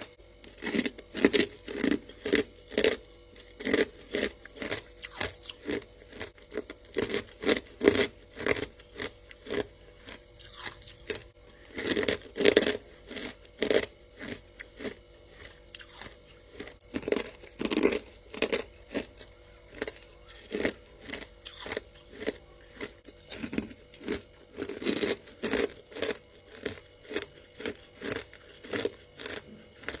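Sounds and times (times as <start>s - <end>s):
chewing crunchy frost: 0.0s - 30.0s
faint steady hum: 0.0s - 30.0s.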